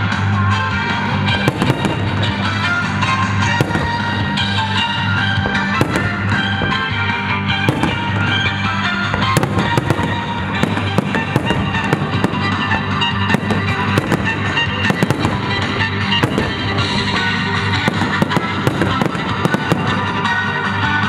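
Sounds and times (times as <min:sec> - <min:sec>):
loud music: 0:00.0 - 0:21.0
fireworks bangs: 0:01.1 - 0:21.0.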